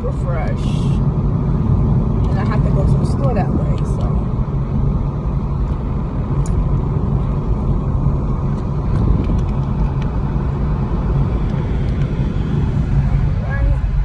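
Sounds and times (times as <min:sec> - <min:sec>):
car road rumble and engine: 0:00.0 - 0:14.0.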